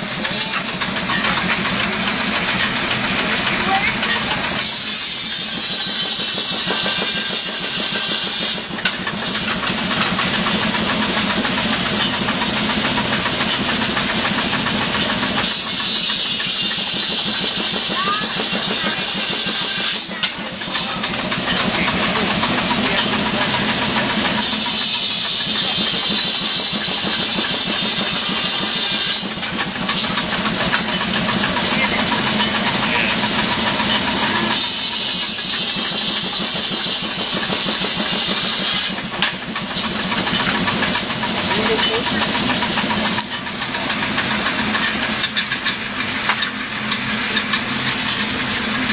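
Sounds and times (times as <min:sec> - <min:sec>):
machinery beating steadily: 0:00.0 - 0:48.9
saw cutting wood: 0:00.0 - 0:48.9.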